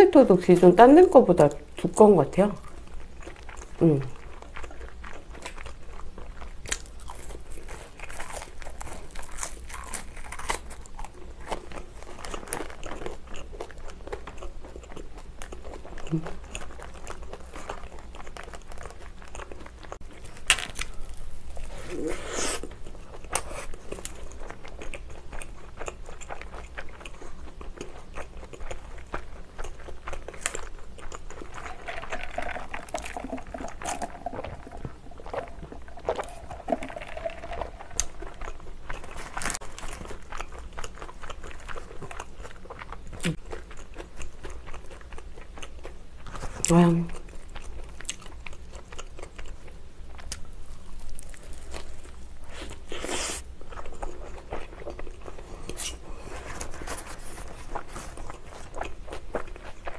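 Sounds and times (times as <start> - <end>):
chewing and biting burger: 2.6 - 46.6, 47.2 - 59.9.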